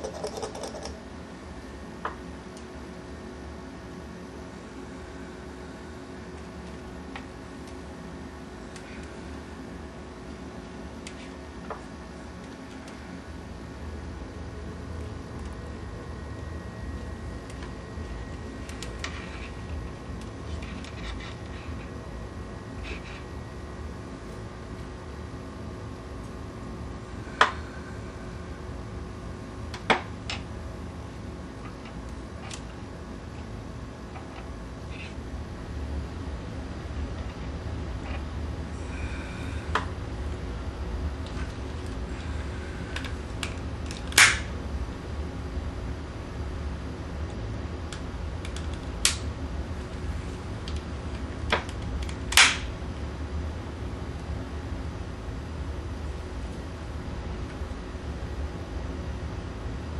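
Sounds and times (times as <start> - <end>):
low hum: 4.5 - 59.9.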